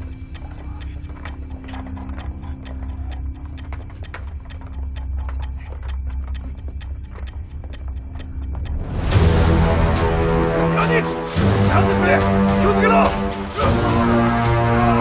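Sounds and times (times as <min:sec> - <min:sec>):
horse hooves clattering: 0:00.0 - 0:15.0.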